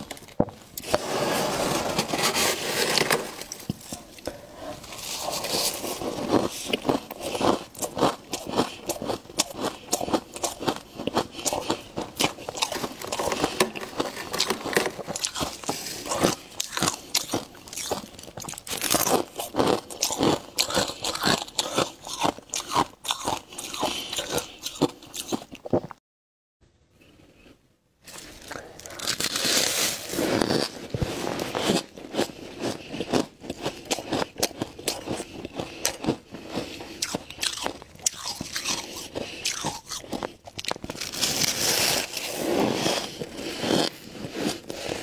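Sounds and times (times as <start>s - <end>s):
ice crunching being chewed: 2.3s - 25.9s, 28.1s - 45.0s.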